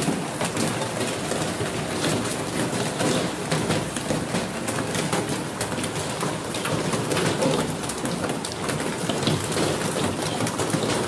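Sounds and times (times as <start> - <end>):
hailstones pelting a car: 0.0 - 11.0.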